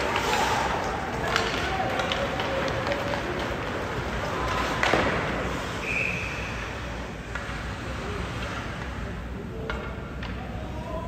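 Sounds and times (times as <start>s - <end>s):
arena noise: 0.0s - 11.0s.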